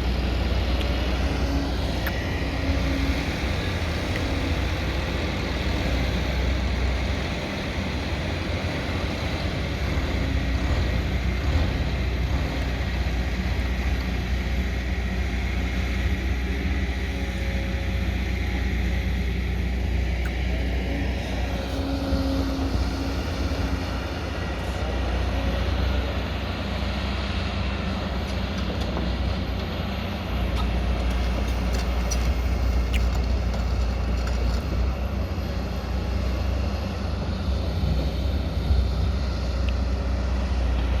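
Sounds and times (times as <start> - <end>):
excavator diesel engine drone: 0.0 - 41.0.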